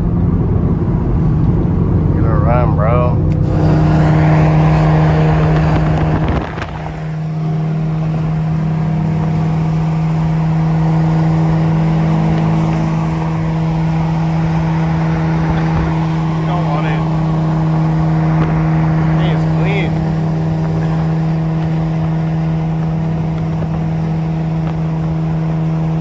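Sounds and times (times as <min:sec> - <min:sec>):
car engine and exhaust drone: 0:00.0 - 0:26.0.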